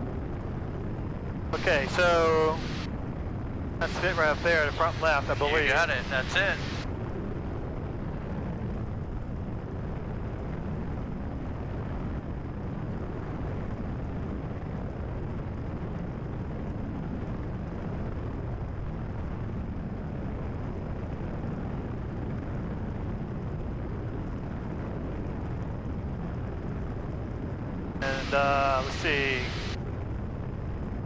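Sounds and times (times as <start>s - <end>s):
aircraft engine and propeller droning: 0.0s - 13.6s, 19.5s - 30.9s.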